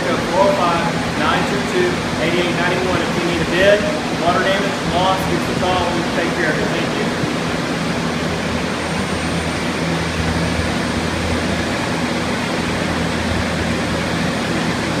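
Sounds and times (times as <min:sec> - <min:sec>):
low motor hum: 0:00.0 - 0:15.0
rush of air from fans: 0:00.0 - 0:15.0.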